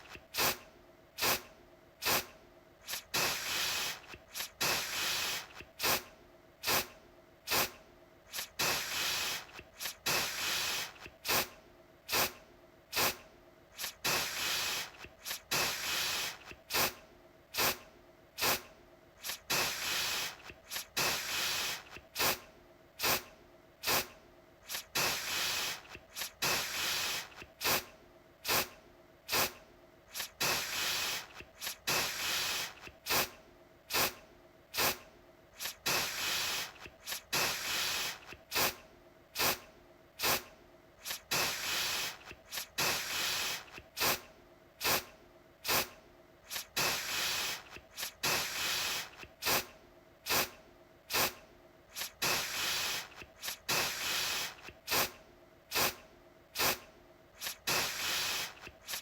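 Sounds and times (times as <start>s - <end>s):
aerosol can spraying: 0.0s - 0.6s, 1.2s - 6.9s, 7.5s - 11.5s, 12.1s - 13.2s, 13.8s - 17.8s, 18.4s - 22.4s, 23.0s - 28.7s, 29.3s - 34.2s, 34.8s - 35.0s, 35.6s - 38.8s, 39.4s - 39.6s, 40.2s - 40.4s, 41.0s - 44.2s, 44.8s - 56.0s, 56.6s - 56.8s, 57.4s - 59.0s.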